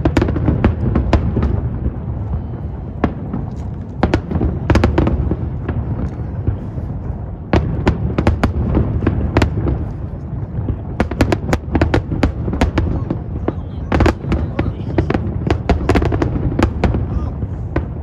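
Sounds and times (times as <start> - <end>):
fireworks cracks and bangs: 0.0 - 18.0
fireworks rumble: 0.0 - 18.0.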